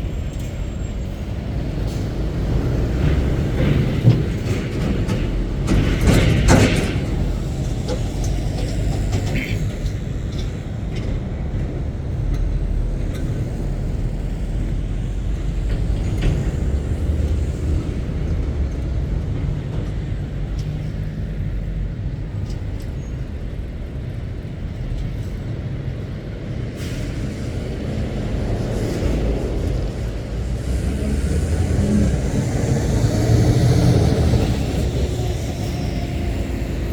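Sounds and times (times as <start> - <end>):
lorry diesel engines running: 0.0 - 36.9.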